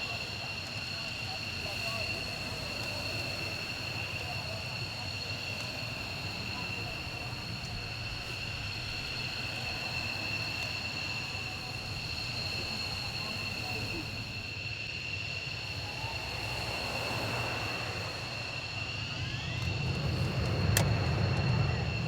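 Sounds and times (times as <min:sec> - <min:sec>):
distant jet engine rumble and whine: 0:00.0 - 0:22.0.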